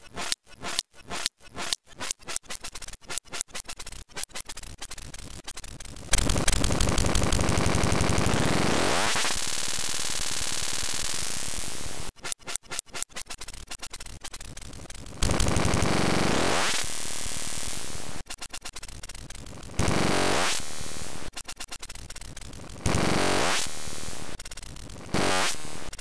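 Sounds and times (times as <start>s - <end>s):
rapid sharp clicks: 0.0s - 11.5s, 12.2s - 16.2s, 18.2s - 20.1s, 21.2s - 23.7s, 24.3s - 26.0s
harsh electronic noise: 0.0s - 12.0s, 12.9s - 26.0s.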